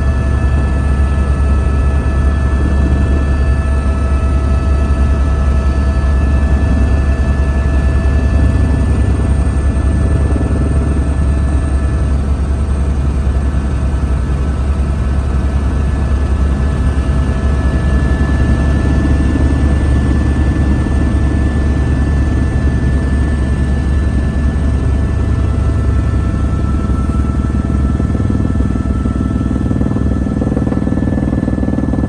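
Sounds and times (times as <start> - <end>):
helicopter rotor and engine drone: 0.0 - 32.0.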